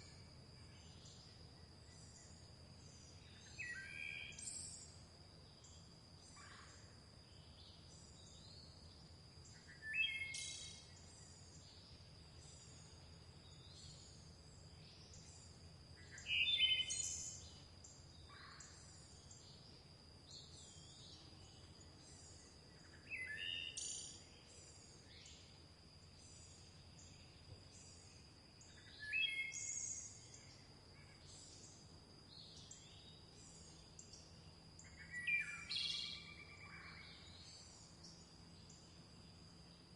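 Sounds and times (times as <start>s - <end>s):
faint bird twittering: 0.0s - 25.6s, 26.2s - 39.0s
songbird singing: 0.0s - 39.9s.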